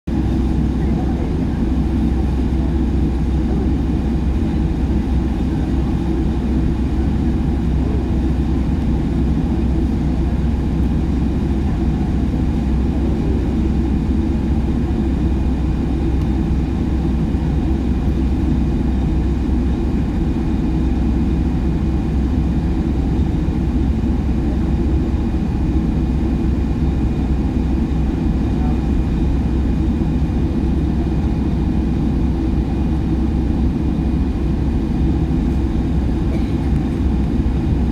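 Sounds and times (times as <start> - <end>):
airliner cabin rumble: 0.1 - 37.9.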